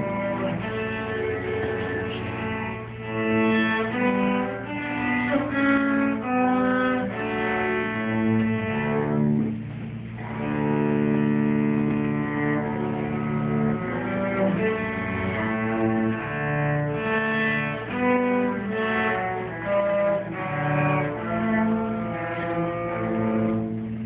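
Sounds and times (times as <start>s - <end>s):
cello duet: 0.0s - 24.0s.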